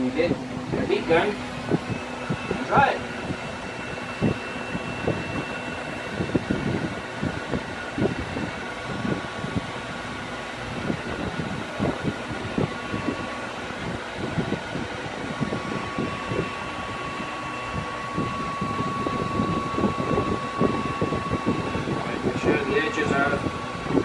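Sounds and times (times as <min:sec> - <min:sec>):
heat gun blowing: 0:00.0 - 0:24.0.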